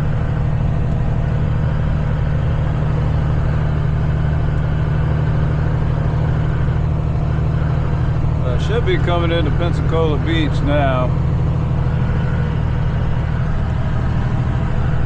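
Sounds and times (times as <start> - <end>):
diesel truck engine droning: 0.0 - 15.0
road noise: 0.0 - 15.0.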